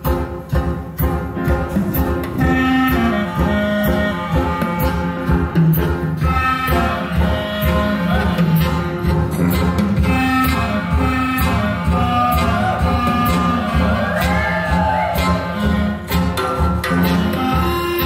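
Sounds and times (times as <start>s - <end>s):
instrumental music with steady beat: 0.0s - 18.0s.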